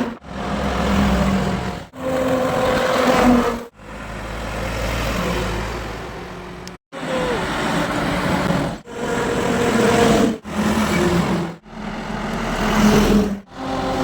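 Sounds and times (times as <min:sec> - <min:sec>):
highway traffic: 0:00.0 - 0:14.0.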